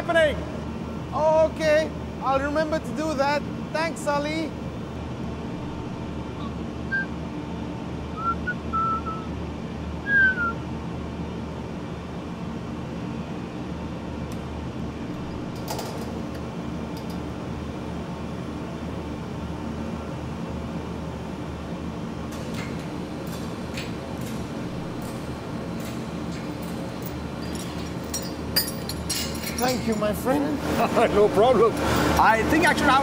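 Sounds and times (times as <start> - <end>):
low machinery hum: 0.0 - 33.0.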